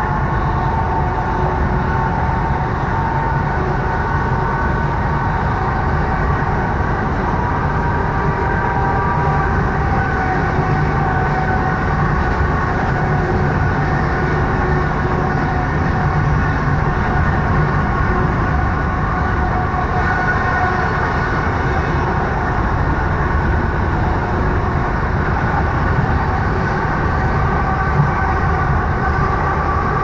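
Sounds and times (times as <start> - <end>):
faint whine: 0.0 - 30.0
train wheels rumbling on rails: 0.0 - 30.0.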